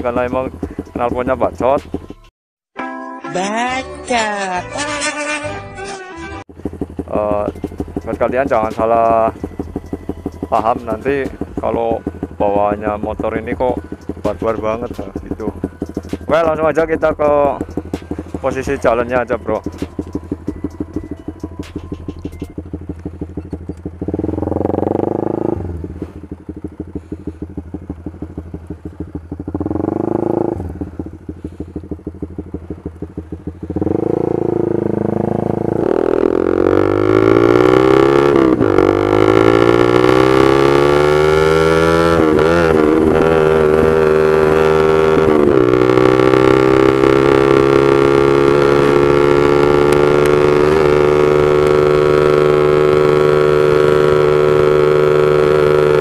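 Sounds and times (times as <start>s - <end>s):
motorcycle engine revving: 0.0s - 2.3s, 4.2s - 56.0s.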